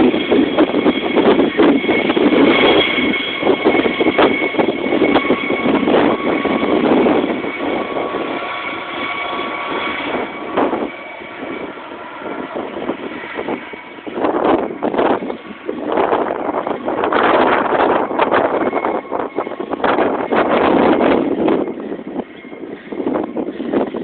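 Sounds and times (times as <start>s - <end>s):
helicopter rotor noise: 0.0s - 24.0s
high turbine whine: 0.0s - 24.0s.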